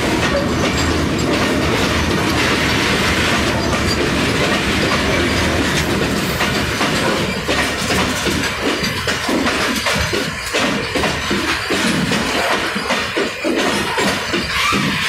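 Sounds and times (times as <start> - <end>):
freight train rumbling past: 0.0 - 15.0
steel wheels clattering on rails: 0.0 - 15.0.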